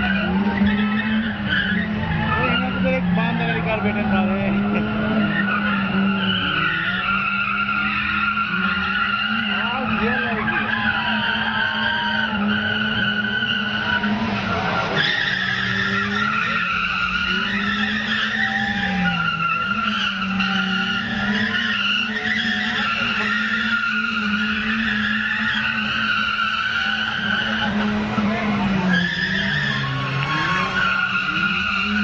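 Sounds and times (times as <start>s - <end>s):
car engine at high revs: 0.0s - 32.0s
tyres squealing on tarmac: 0.0s - 32.0s.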